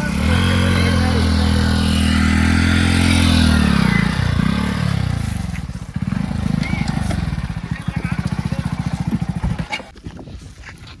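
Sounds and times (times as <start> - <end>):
diesel engine revving: 0.0 - 9.9.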